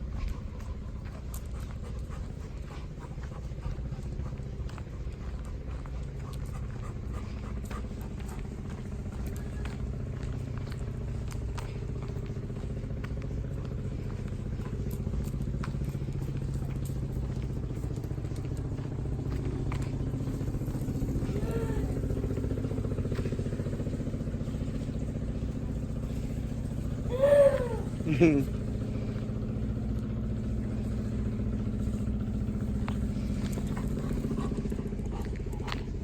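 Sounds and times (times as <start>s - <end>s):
engine hum: 0.0s - 36.0s.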